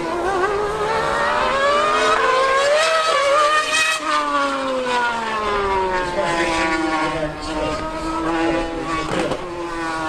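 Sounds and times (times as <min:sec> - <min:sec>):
racing car engine: 0:00.0 - 0:10.0.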